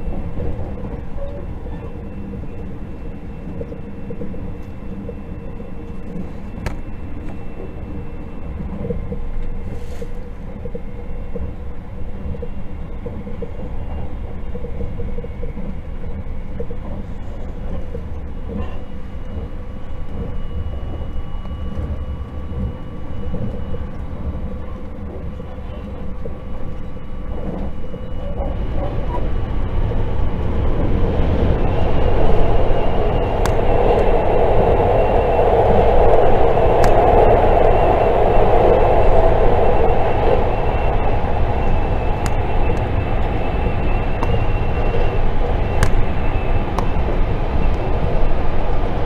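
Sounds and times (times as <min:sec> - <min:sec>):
faint steady whine: 0:00.0 - 0:49.0
wheels rumbling on rail: 0:00.0 - 0:49.0.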